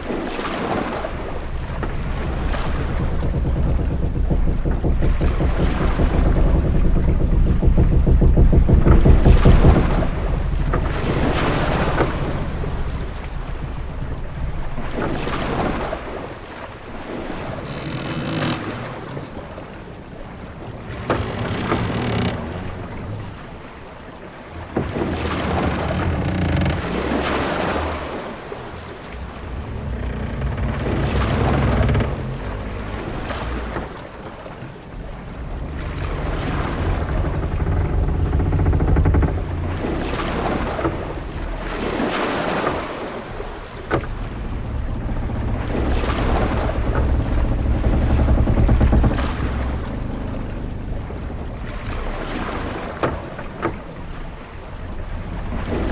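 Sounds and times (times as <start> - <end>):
low rumble of wind: 0.0 - 55.9
waves washing: 0.0 - 55.9
sharp knocks: 0.4 - 16.4, 20.5 - 23.7, 24.6 - 55.9.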